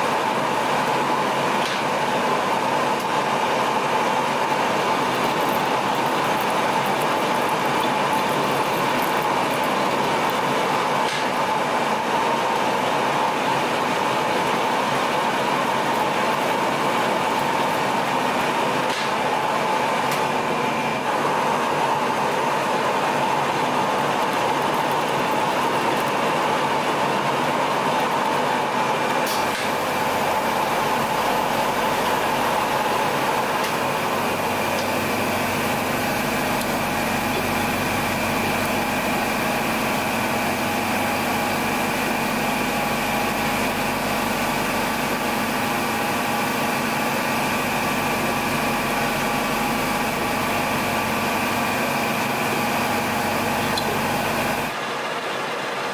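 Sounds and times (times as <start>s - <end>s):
metal lathe running: 0.0s - 55.9s.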